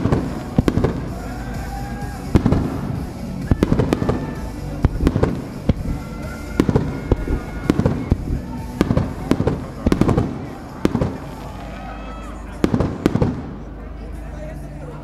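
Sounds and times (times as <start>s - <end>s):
fireworks whistling: 0.0s - 11.8s, 12.4s - 13.7s
fireworks bangs: 0.0s - 11.9s, 12.5s - 13.8s.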